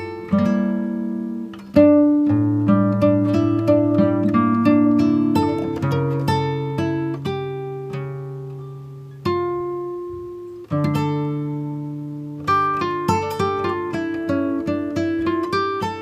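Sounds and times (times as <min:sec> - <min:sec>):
plucked guitar chords: 0:00.0 - 0:16.0.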